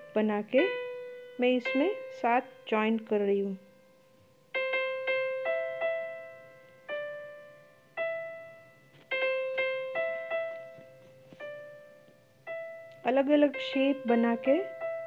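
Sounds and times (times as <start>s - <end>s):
soft keyboard chords: 0.0s - 15.0s.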